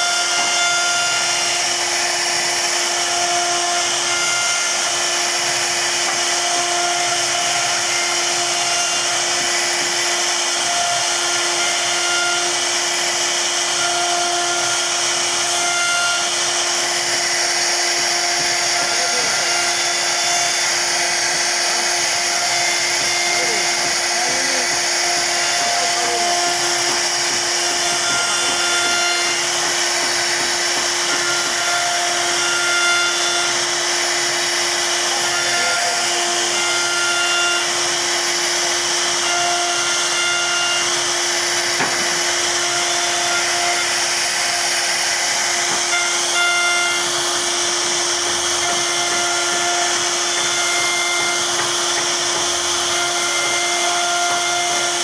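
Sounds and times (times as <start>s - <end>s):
cutter hissing in wood: 0.0s - 55.0s
router spindle whining: 0.0s - 55.0s.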